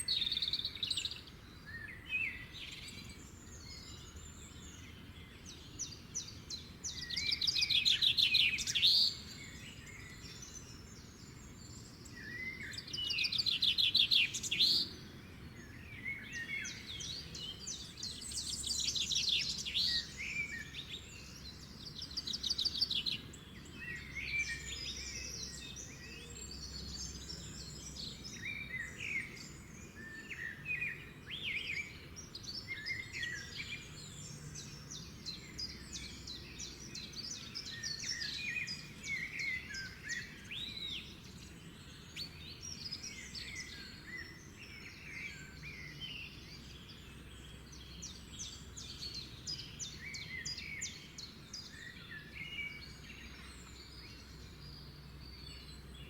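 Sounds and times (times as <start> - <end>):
birds singing and calling: 0.0 - 56.0
loud trilled bird song: 0.0 - 56.0.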